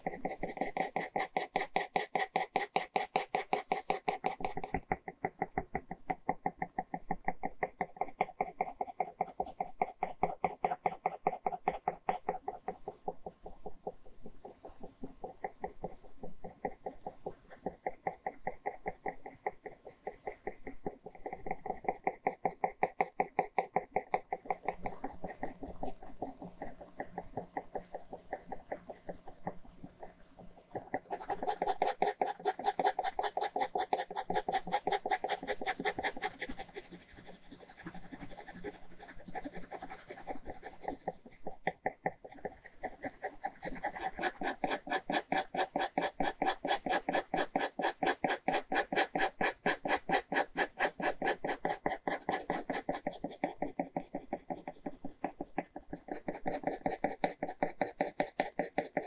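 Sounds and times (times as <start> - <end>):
pen scratching on paper: 0.0 - 59.0.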